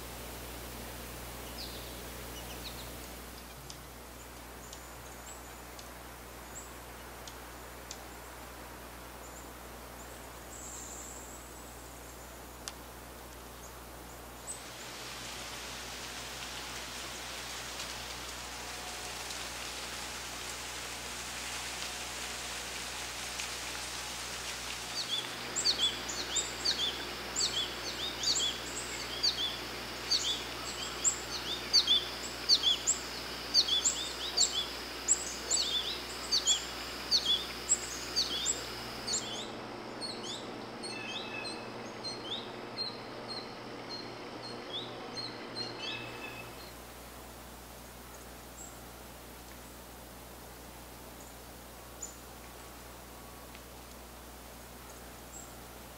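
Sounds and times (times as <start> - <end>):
steady outdoor hiss: 0.0 - 55.9.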